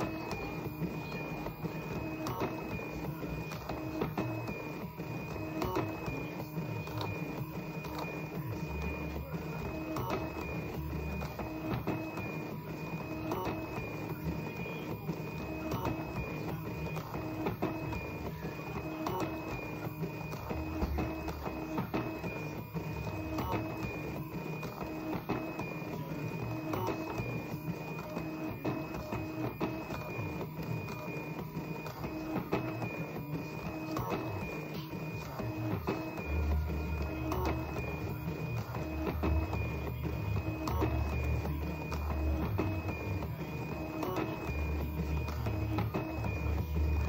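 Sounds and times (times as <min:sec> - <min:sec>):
stepper motor whine: 0:00.0 - 0:47.0.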